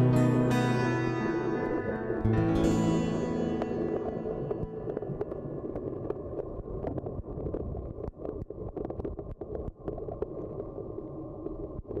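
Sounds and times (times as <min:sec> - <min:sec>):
muffled underwater water rush: 0:00.0 - 0:12.0.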